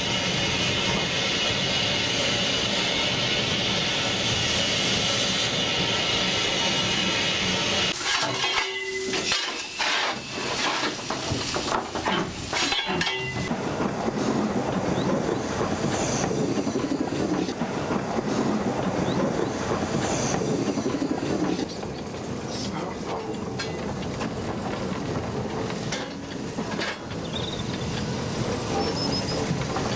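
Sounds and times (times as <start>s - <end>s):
steam hissing: 0.0s - 29.9s
wheels rumbling on rail: 0.0s - 29.9s.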